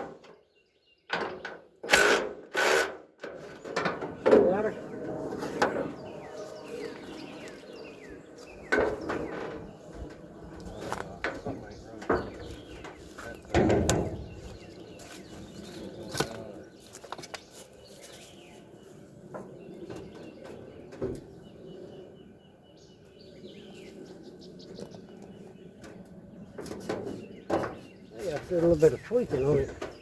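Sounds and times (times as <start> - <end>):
small birds chirping: 3.5 - 30.0.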